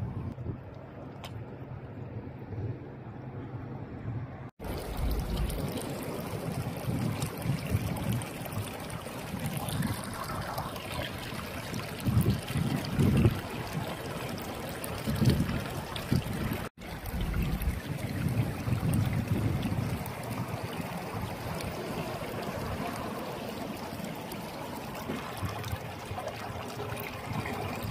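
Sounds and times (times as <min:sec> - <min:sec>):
wind buffeting microphone: 0:00.0 - 0:00.7, 0:03.9 - 0:24.2, 0:24.8 - 0:27.9
water rushing over stones: 0:04.6 - 0:27.9.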